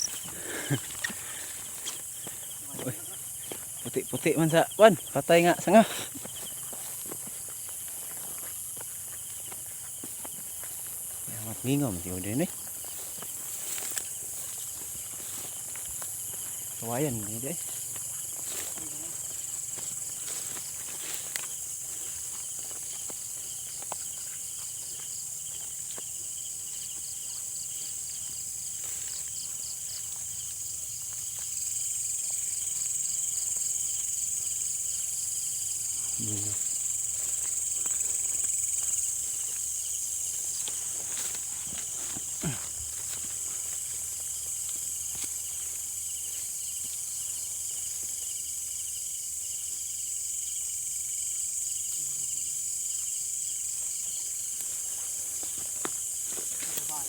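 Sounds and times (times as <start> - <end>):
crickets and insects chirping: 0.0 - 57.0.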